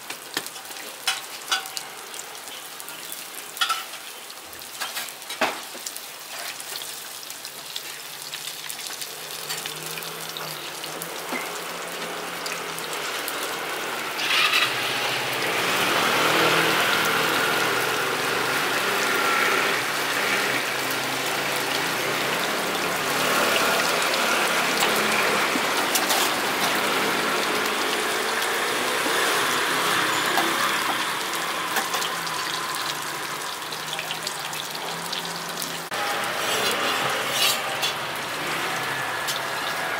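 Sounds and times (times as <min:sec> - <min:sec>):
dough deep-frying in hot oil: 0:00.0 - 0:39.9.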